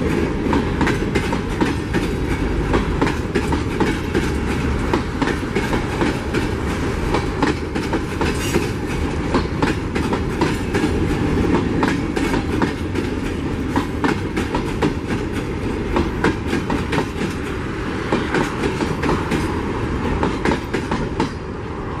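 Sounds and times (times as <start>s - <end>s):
wheels clacking over rail joints: 0.0s - 21.5s
train rumble: 0.0s - 22.0s.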